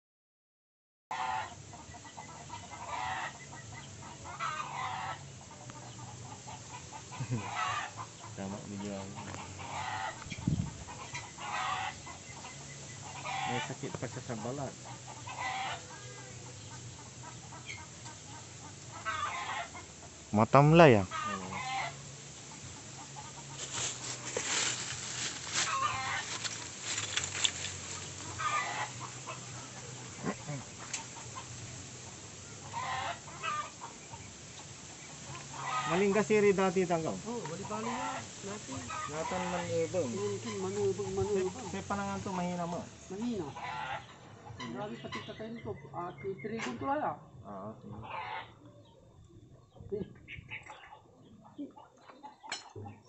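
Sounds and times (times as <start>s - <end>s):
chickens clucking: 1.1s - 53.0s.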